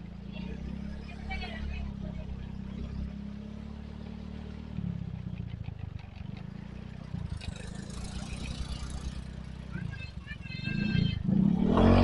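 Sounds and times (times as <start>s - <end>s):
small engine rumbling: 0.0s - 12.0s.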